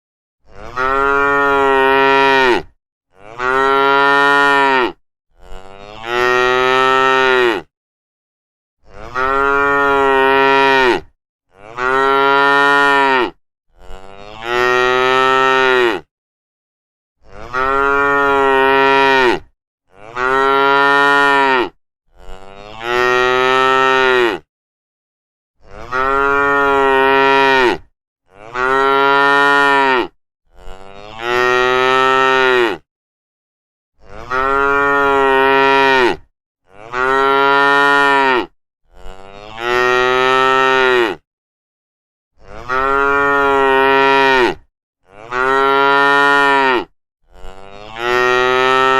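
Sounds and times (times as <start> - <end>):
cattle mooing: 0.5 - 7.7, 8.9 - 16.1, 17.2 - 24.5, 25.7 - 32.8, 34.0 - 41.2, 42.4 - 48.9.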